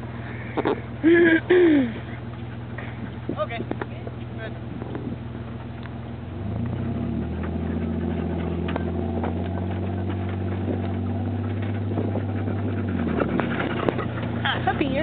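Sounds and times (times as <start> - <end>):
vehicle engine: 0.0 - 15.0.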